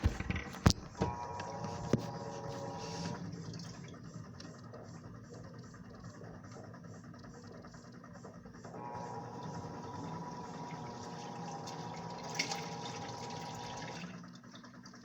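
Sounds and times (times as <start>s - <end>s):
washing machine motor hum: 0.0s - 15.0s
water churning in washing machine: 0.0s - 15.0s.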